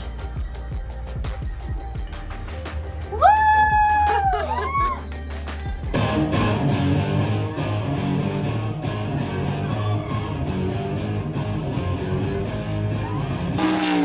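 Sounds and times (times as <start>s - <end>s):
guitar-led background music: 0.0s - 14.0s.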